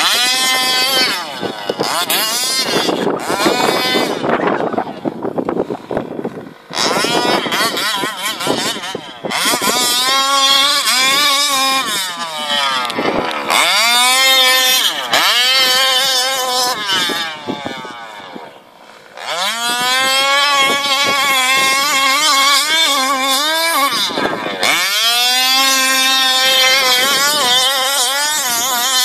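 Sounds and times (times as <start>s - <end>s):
small two-stroke engine revving: 0.0s - 29.0s.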